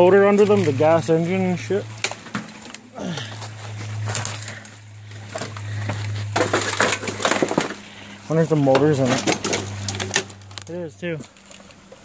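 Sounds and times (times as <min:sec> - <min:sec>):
rustling and crunching in brush: 0:00.0 - 0:12.0.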